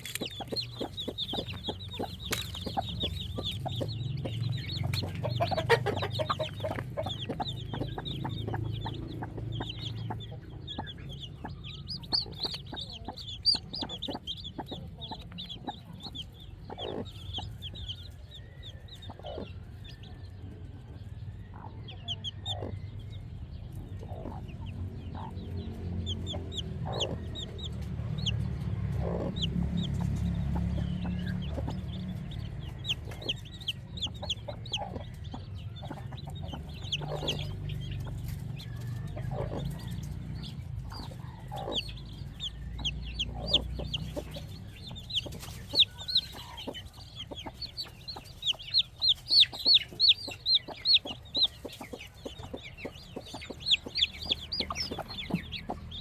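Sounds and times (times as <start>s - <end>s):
low rumble: 0.0s - 18.6s, 22.8s - 56.0s
chickens clucking: 0.0s - 56.0s
chicks peeping: 0.0s - 56.0s.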